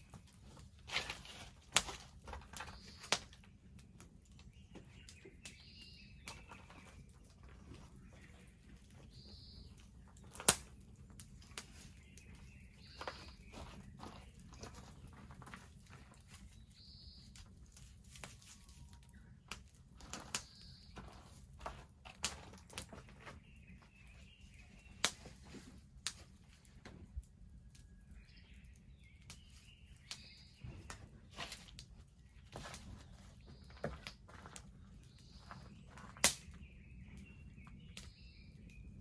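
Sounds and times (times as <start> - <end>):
bonfire crackling and popping: 0.0 - 23.3, 24.6 - 32.8, 33.4 - 39.0.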